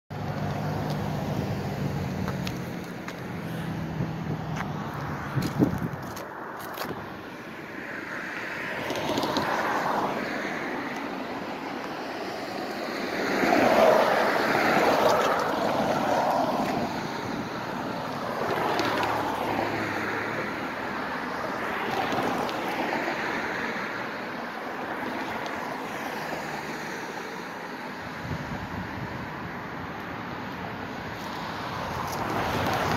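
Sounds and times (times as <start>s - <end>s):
road traffic passing: 0.1s - 32.9s.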